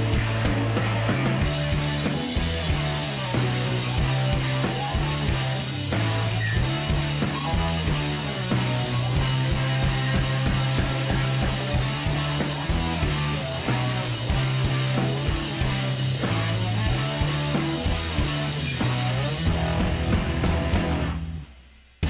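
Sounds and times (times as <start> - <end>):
rock music with electric guitar: 0.0 - 21.7.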